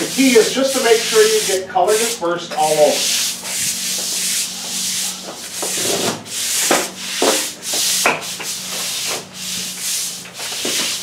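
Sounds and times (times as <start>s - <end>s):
broom scrubbing wet concrete: 0.0s - 11.0s.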